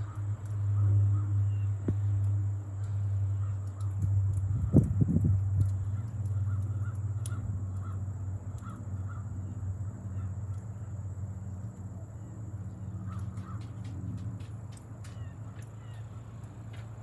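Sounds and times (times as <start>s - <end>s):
propeller aircraft droning overhead: 0.0s - 17.0s.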